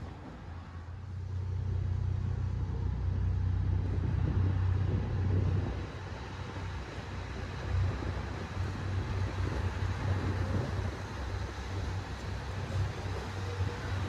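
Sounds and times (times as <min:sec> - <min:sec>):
diesel train engine rumbling: 0:00.0 - 0:14.0.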